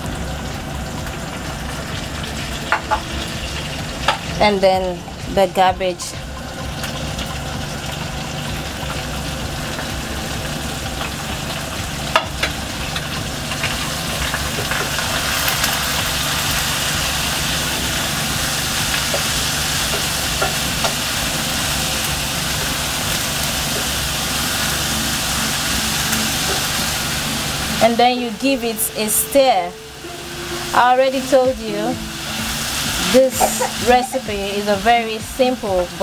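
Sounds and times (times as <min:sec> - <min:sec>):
steady low hum: 0:00.0 - 0:35.9
food sizzling in hot oil: 0:00.0 - 0:36.0.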